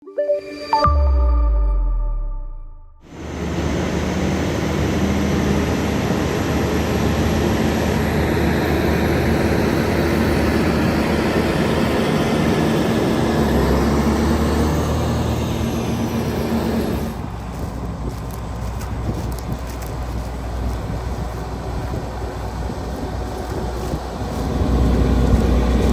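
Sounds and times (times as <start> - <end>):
tractor diesel engine under load: 3.1 - 25.9.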